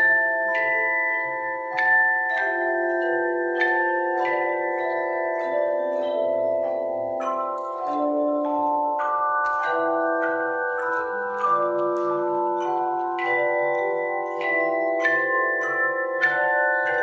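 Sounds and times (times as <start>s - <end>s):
handbell choir ringing chords: 0.0s - 17.0s.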